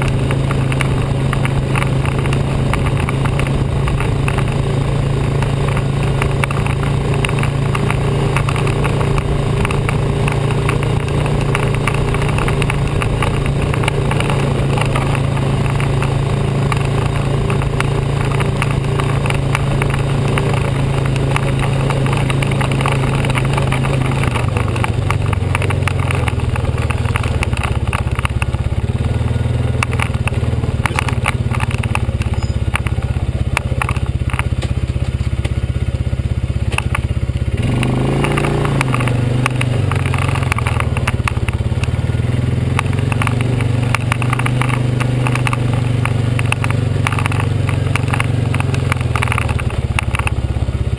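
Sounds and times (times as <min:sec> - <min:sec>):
clicks and rattles: 0:00.0 - 0:35.6, 0:36.6 - 0:50.6
atv engine running: 0:00.0 - 0:50.9.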